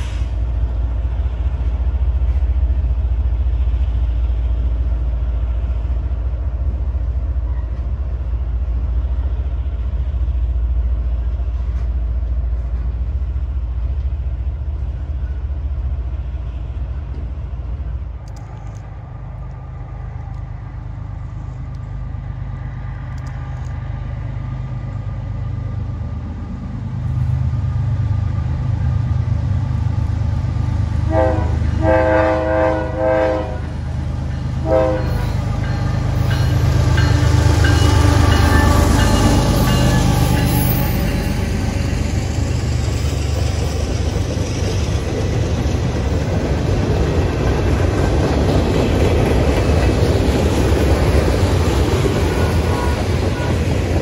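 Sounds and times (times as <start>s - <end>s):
diesel locomotive engines rumbling: 0.0s - 54.0s.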